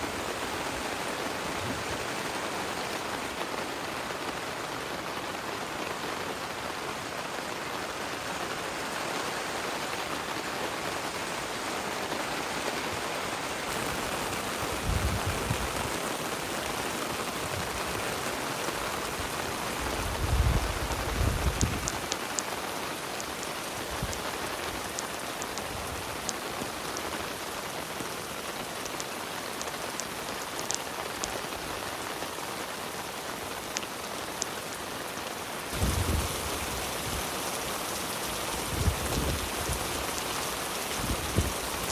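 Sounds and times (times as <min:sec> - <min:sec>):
heavy rain: 0:00.0 - 0:41.9.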